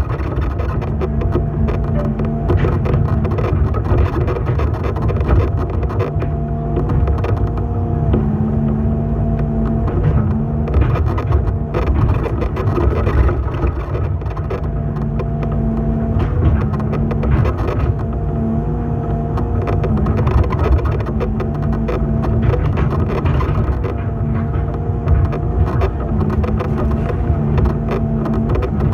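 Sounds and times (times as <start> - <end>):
sharp knocks and clanks: 0.0 - 18.4, 19.2 - 28.9
excavator engine and hydraulics: 0.0 - 28.9.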